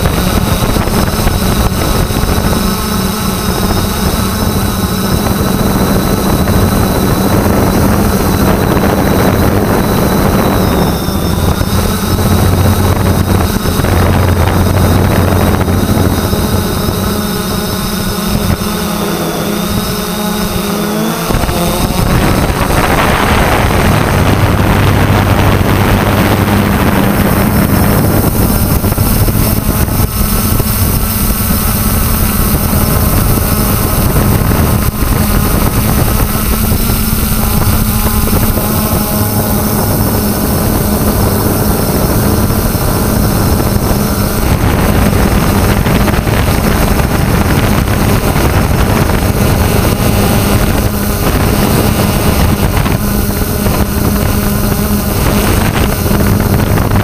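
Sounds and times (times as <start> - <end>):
drone propellers droning: 0.0 - 57.0
wind buffeting microphone: 0.0 - 57.0.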